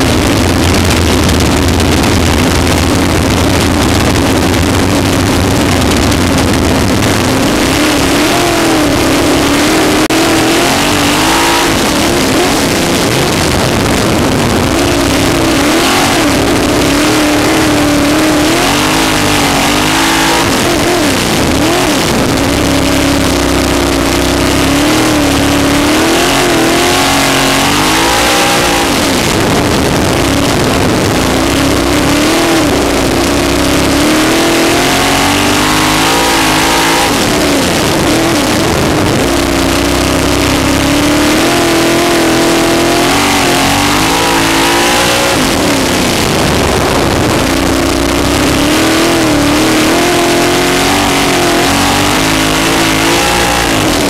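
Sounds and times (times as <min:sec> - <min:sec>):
race car engine at full load: 0:00.0 - 0:54.0.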